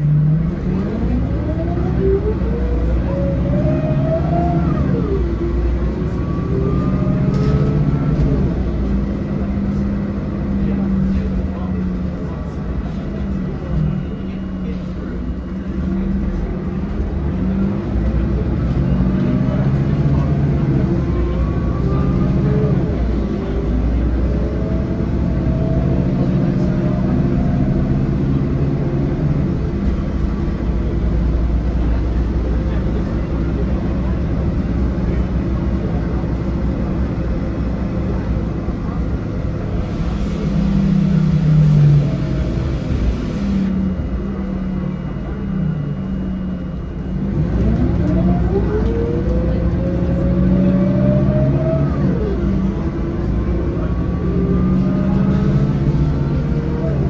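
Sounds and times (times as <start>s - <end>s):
bus diesel engine: 0.0s - 57.0s
road noise: 0.0s - 57.0s.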